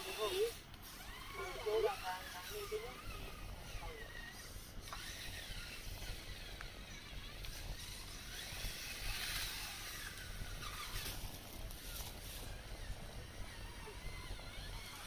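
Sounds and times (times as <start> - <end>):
outdoor background noise: 0.0 - 15.0
small electric motors whining: 0.0 - 15.0.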